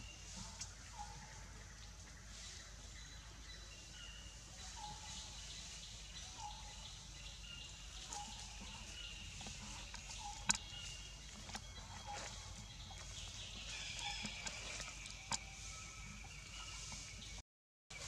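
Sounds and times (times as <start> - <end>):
bird chirping: 2.3 - 18.0.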